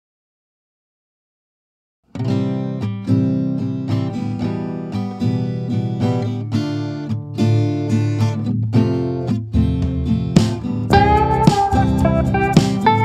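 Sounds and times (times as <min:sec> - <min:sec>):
plucked and strummed guitar: 0:02.1 - 0:13.0.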